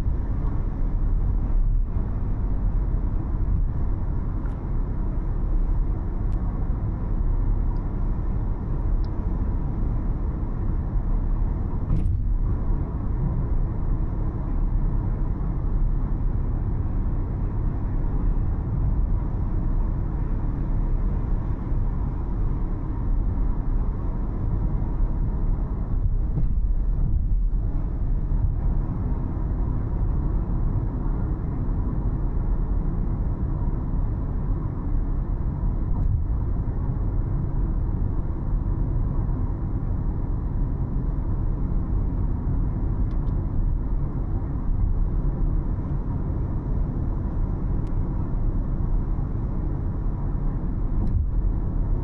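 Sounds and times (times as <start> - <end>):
car engine rumble: 0.0 - 52.0
road noise: 0.0 - 52.0.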